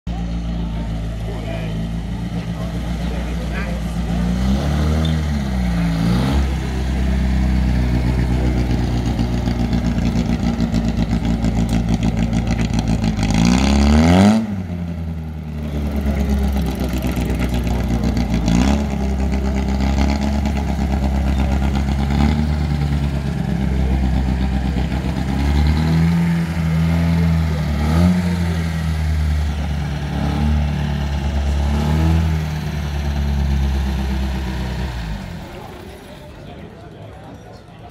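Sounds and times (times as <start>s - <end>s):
car engines revving: 0.1s - 37.9s.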